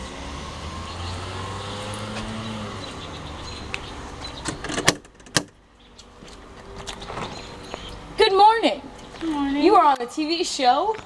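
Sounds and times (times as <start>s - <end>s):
car engine humming: 0.0s - 10.7s.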